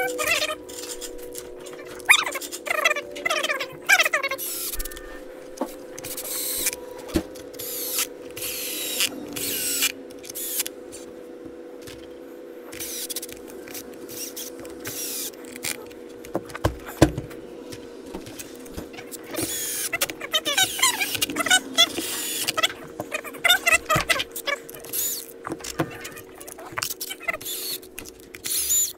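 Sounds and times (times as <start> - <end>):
steady low hum: 0.0 - 28.9
power screwdriver whining: 4.0 - 11.1, 12.7 - 28.9.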